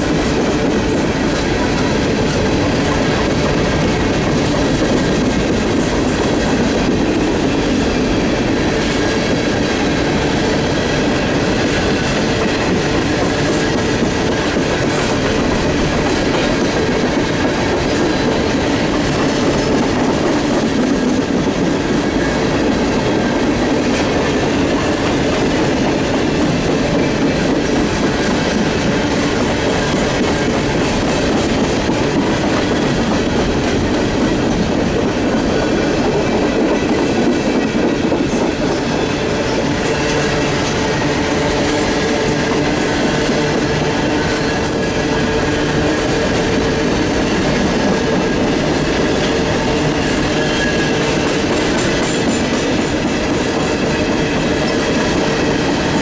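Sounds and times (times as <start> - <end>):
freight train rumbling past: 0.0 - 56.0
high tones from wheels on rail: 0.0 - 56.0.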